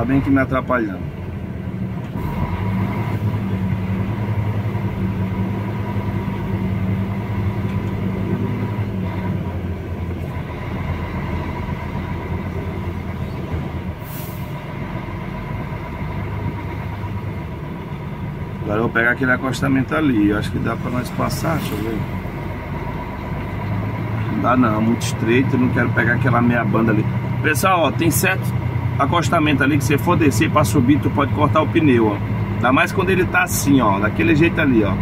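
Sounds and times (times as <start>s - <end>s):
road rumble: 0.0s - 35.0s
truck diesel engine drone: 0.0s - 35.0s.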